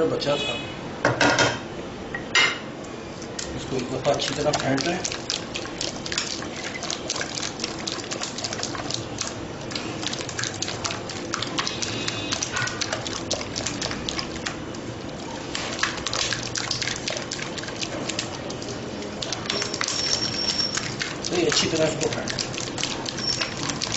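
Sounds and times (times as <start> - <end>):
thick custard squelching: 3.3 - 23.9.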